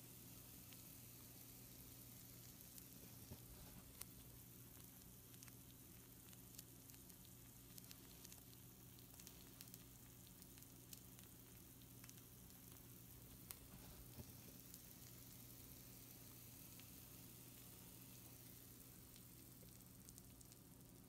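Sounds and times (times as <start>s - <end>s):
food sizzling with pops: 0.0s - 21.0s
steady low hum: 0.0s - 21.0s.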